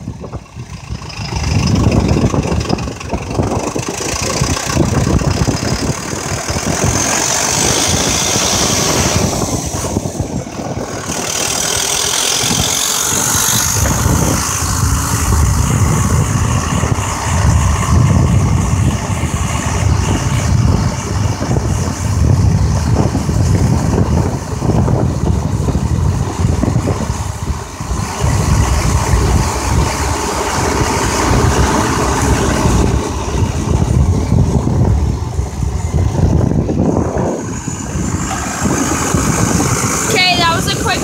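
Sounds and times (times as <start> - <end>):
truck engine and road noise: 0.0 - 41.0.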